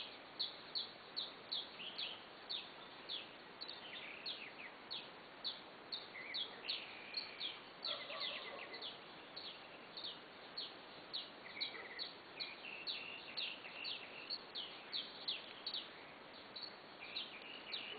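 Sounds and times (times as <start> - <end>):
steady background hiss: 0.0 - 17.9.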